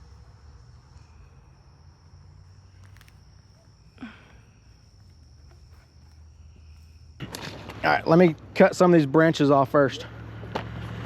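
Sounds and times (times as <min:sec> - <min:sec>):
high insect drone: 0:00.0 - 0:09.3.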